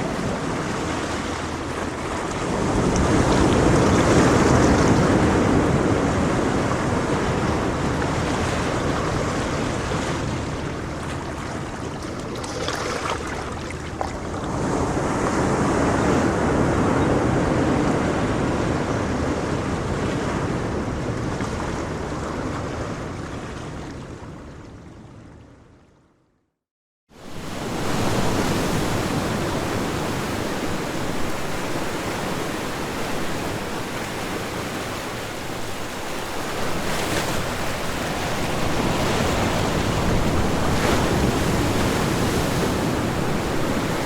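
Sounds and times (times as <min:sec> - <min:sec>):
ocean waves breaking: 0:00.0 - 0:23.8, 0:27.2 - 0:44.0.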